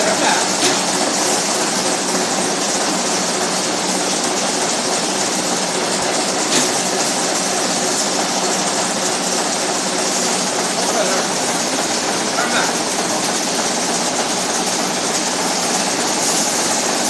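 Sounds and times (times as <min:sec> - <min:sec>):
nail making machines clattering: 0:00.0 - 0:17.0.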